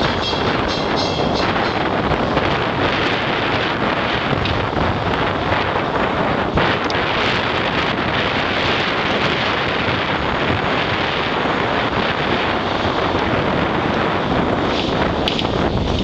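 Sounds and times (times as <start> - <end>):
tram running on rails: 0.0 - 16.0
wind noise on microphone: 0.0 - 16.0.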